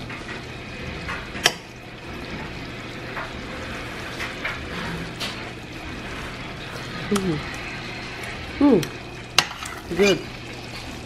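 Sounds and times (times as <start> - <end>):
sauce bubbling in a pan: 0.0 - 11.0.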